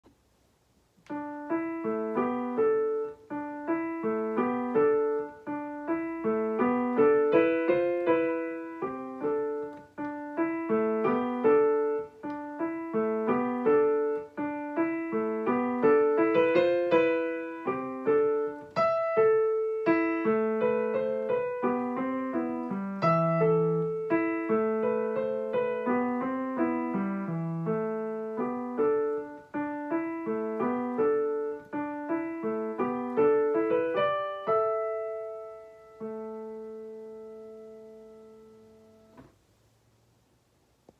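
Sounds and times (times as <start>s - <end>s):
digital piano piece: 0.1s - 40.0s.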